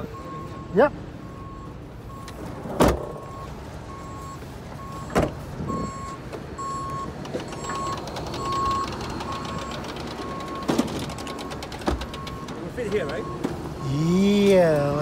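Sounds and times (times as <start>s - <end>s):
vehicle warning beeper: 0.0s - 15.0s.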